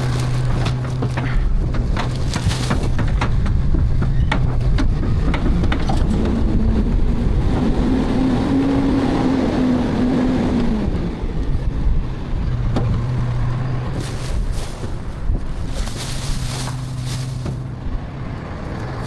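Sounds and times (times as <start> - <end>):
garbage truck engine rumbling: 0.0 - 19.0.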